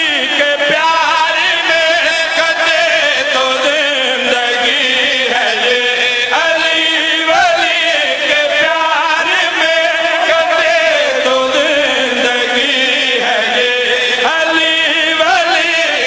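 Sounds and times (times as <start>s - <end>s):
men chanting devotional song: 0.0s - 16.0s.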